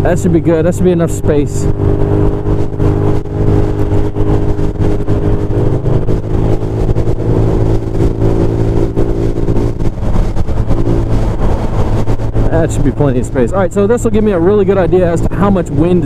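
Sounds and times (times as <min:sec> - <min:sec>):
scooter engine cruising: 0:00.0 - 0:16.0
wind noise on microphone: 0:00.0 - 0:16.0.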